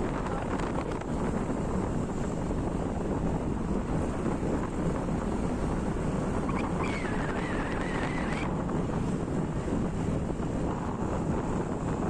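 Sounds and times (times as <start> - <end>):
vehicle rumble on road: 0.0 - 12.0
wind buffeting microphone: 0.0 - 12.0.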